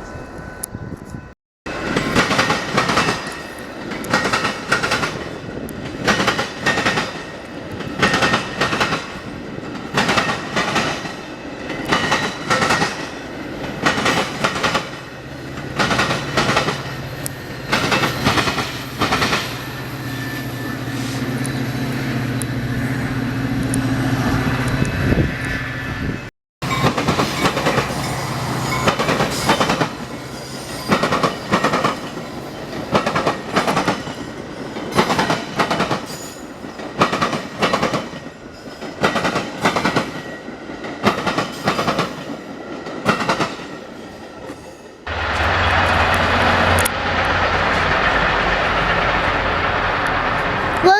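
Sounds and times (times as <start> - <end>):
train wheels clacking over rails: 1.7 - 20.4, 26.6 - 50.9.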